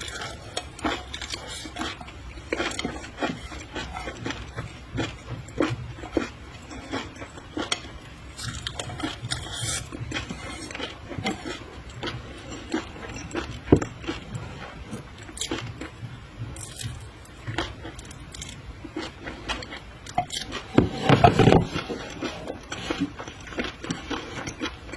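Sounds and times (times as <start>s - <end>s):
wet chewing and biting: 0.0s - 24.9s.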